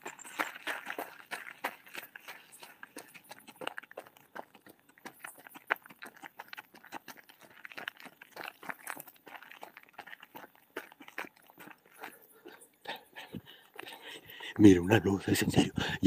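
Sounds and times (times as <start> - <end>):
crunching over dry debris: 0.0 - 16.0.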